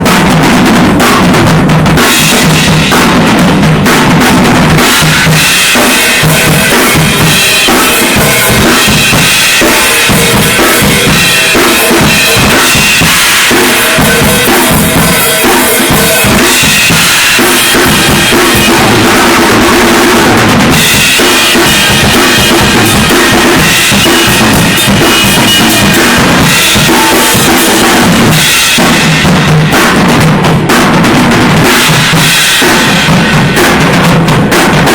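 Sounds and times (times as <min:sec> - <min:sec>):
drum kit playing a groove: 0:00.0 - 0:34.9.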